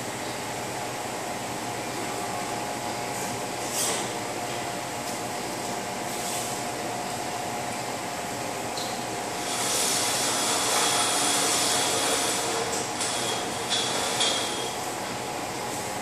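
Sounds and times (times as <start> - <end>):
fan hum: 0.0 - 16.0.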